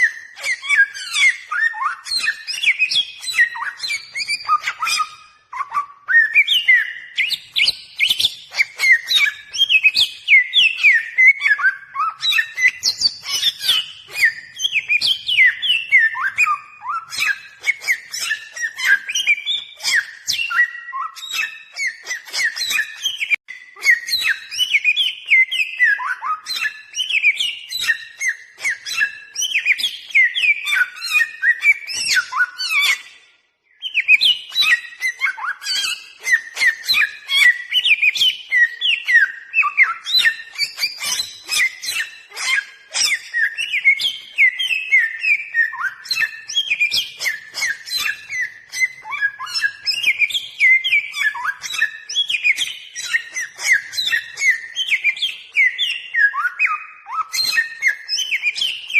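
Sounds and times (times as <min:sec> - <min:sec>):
bird whistling song: 0:00.0 - 0:58.9.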